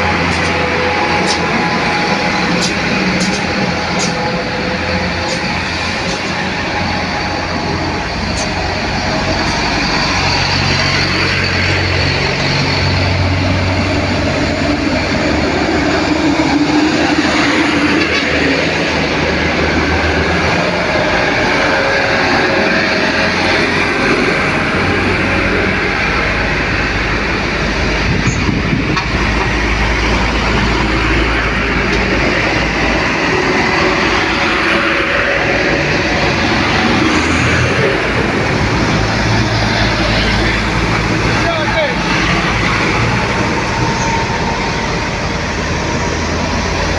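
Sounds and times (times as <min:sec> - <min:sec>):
heavy truck engine under load: 0:00.0 - 0:46.9
road and tyre noise: 0:00.0 - 0:46.9.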